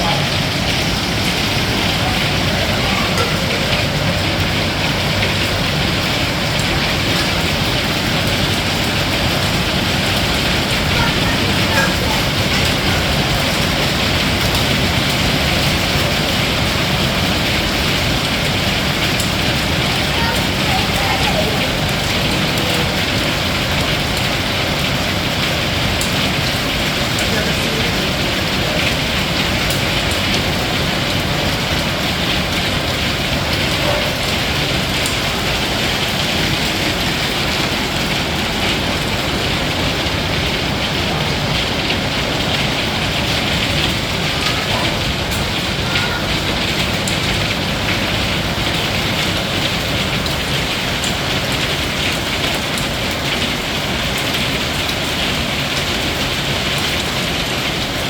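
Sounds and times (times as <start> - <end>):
hail pelting down: 0.0 - 58.0.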